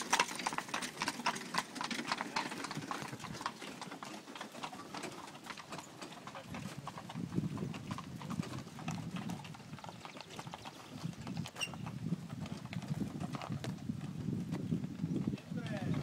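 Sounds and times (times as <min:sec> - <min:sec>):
horse hooves on cobbles: 0:00.0 - 0:16.0
wagon wheels rolling on cobbles: 0:00.0 - 0:16.0.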